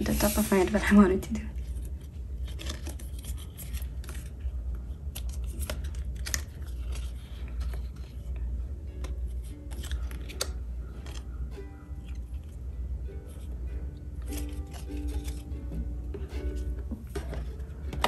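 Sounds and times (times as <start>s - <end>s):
plastic sleeves rustling: 0.0s - 12.6s, 14.2s - 18.0s
steady low hum: 0.0s - 18.0s.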